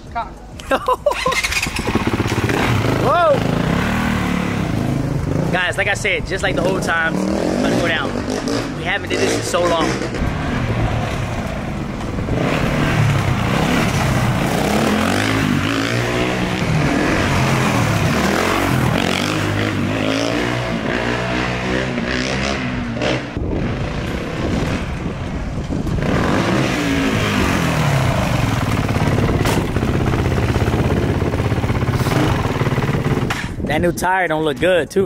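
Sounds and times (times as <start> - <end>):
dirt bike engine revving: 1.2 - 25.1, 25.9 - 33.3.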